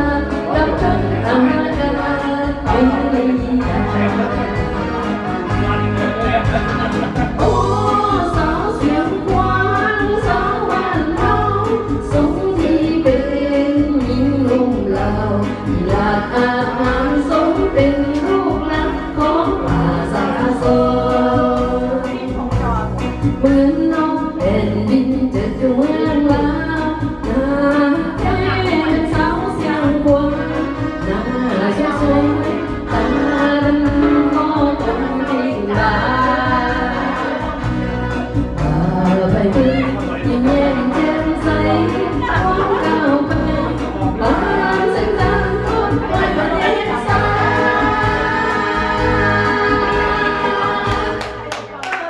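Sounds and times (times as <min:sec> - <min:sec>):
woman singing into microphone: 0:00.0 - 0:05.6, 0:07.3 - 0:52.0
amplified accompaniment with bass beat: 0:00.0 - 0:52.0.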